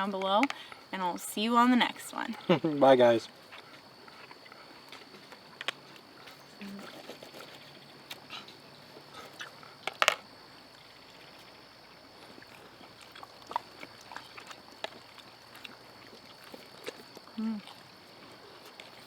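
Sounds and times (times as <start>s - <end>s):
person chewing food: 3.5s - 19.0s.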